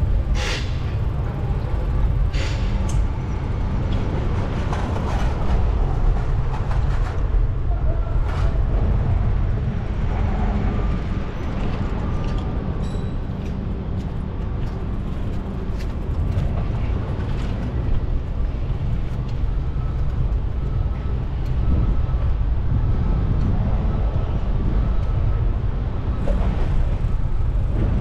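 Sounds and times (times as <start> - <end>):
traffic: 0.0 - 28.0
wind: 0.0 - 28.0.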